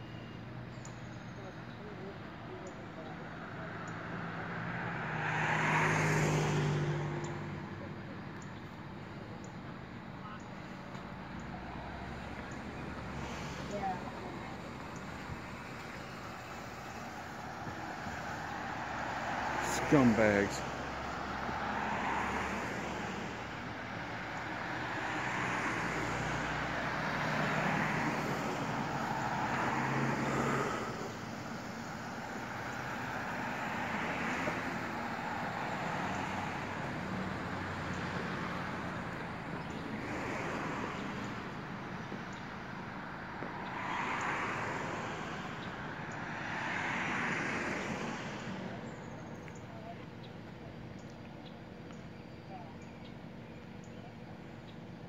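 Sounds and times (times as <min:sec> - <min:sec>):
cars passing on road: 0:00.0 - 0:55.0.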